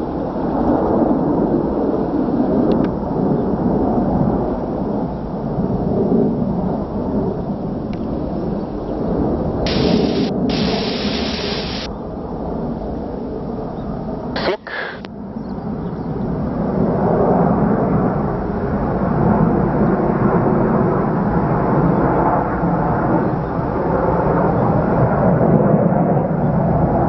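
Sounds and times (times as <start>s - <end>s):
distant jet engines rumbling: 0.0s - 27.0s.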